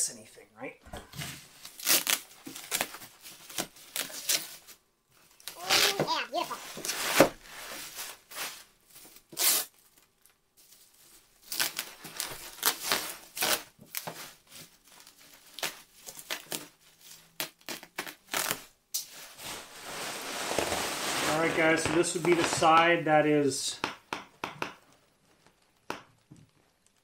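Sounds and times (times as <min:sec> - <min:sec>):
bubble wrap crinkling and tearing: 0:01.4 - 0:23.5, 0:24.7 - 0:27.0.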